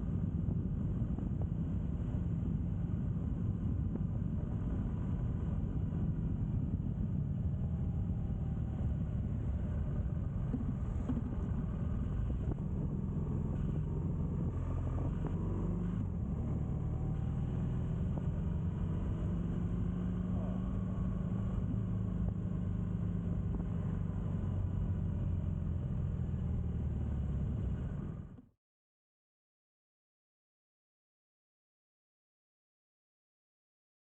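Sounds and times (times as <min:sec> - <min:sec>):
vehicle engine running: 0:00.0 - 0:28.5.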